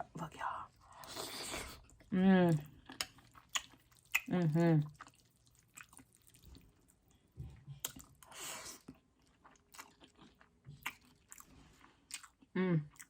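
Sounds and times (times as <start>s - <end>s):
close-up chewing: 0.8s - 13.0s.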